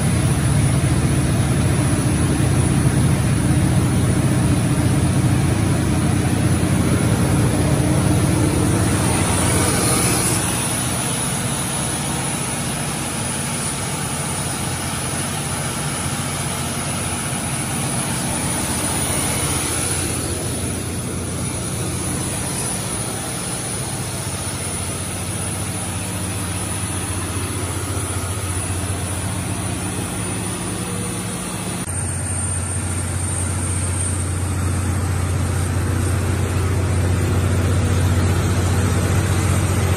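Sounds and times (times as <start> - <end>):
generator engine hum: 0.0 - 39.9.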